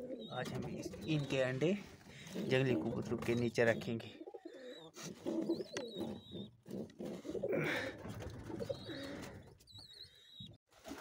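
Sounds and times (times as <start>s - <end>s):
pigeons cooing: 0.0s - 1.5s, 2.1s - 10.6s.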